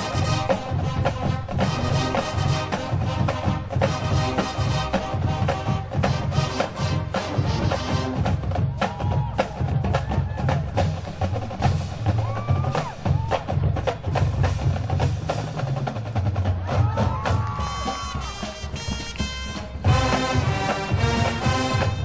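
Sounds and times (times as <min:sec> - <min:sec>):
marching band parts: 0:00.0 - 0:22.0
marching drumline: 0:00.0 - 0:22.0.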